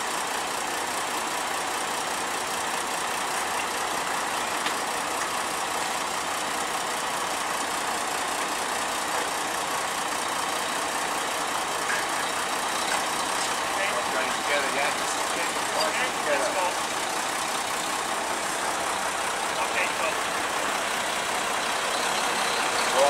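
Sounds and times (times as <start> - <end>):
diesel engines running: 0.0 - 23.0.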